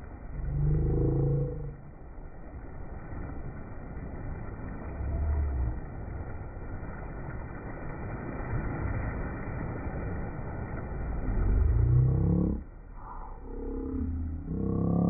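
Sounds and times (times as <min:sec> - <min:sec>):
low rumble: 0:00.0 - 0:15.0
surf washing over shallows: 0:00.0 - 0:15.0
water splashing: 0:00.0 - 0:15.0.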